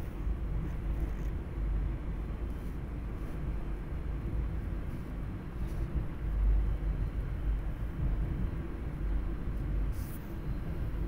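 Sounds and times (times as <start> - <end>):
train car low rumble: 0.0 - 11.0.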